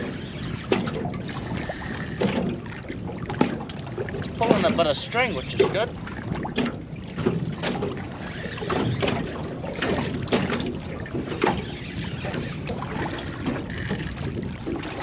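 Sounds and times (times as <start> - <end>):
water slapping against boat hull: 0.0 - 15.0
wind buffeting microphone: 0.0 - 15.0.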